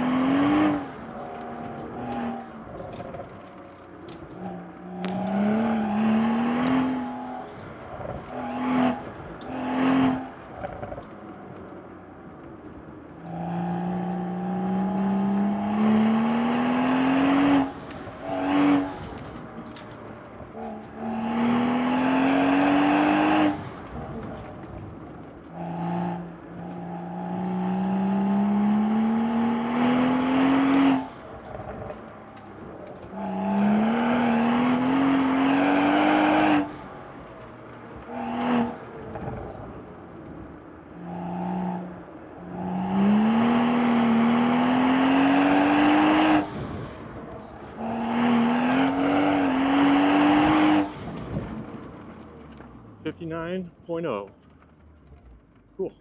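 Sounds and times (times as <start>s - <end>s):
car engine accelerating hard: 0.0s - 55.7s.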